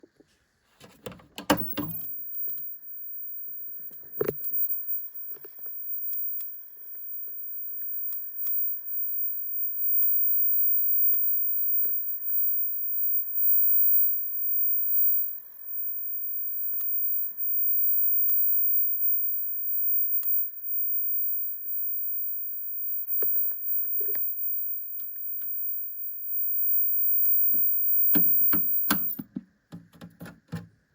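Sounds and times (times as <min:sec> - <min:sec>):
crackling clicks and pops: 0:00.8 - 0:30.6
crt monitor hissing buzz: 0:01.5 - 0:29.2.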